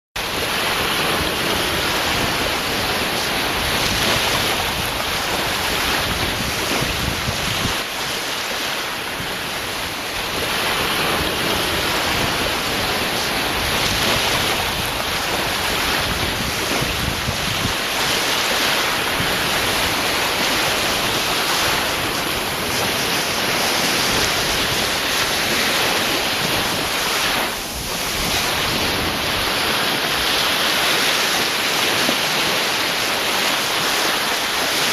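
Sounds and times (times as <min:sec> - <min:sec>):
waves breaking: 0:00.2 - 0:34.9.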